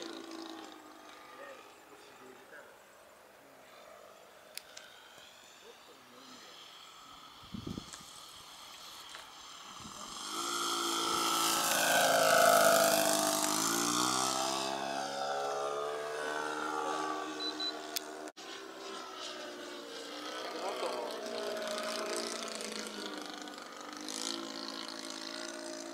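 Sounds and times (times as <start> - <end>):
model plane engine flying past: 0.0 - 25.9.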